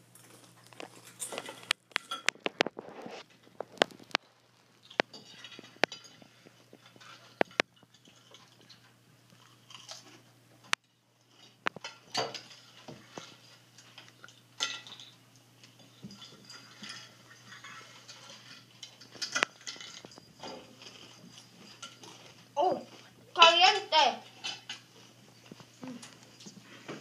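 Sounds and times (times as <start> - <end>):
people chewing and crunching food: 0.0 - 27.0.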